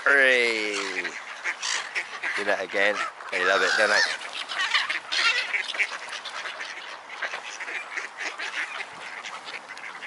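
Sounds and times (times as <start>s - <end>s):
ducks quacking: 0.0s - 10.0s
gulls calling: 0.0s - 10.0s.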